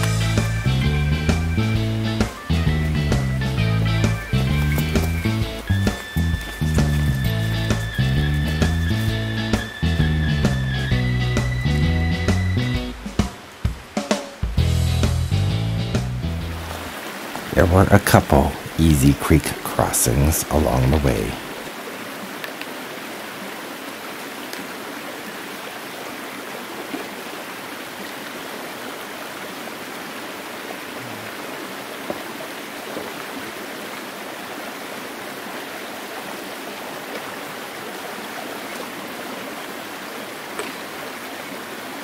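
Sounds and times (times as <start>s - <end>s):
creek water rushing over stones: 0.0s - 42.0s.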